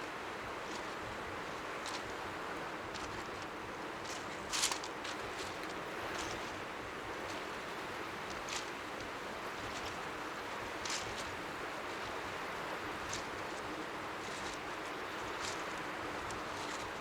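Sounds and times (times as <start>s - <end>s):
faint lapping waves: 0.0s - 17.0s.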